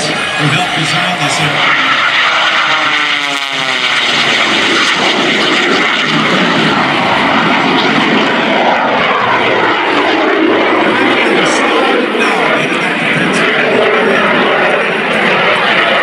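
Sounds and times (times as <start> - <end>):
biplane engine flying past: 0.0 - 16.0.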